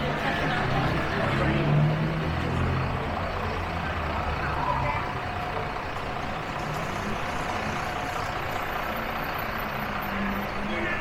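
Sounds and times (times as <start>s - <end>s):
heavy vehicle engine hum: 0.0s - 11.0s
street traffic: 0.0s - 11.0s.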